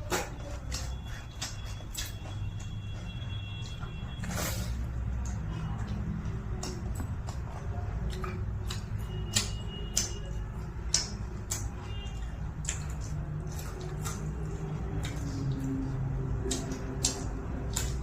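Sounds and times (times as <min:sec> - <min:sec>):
crunching and chewing: 0:00.0 - 0:18.0.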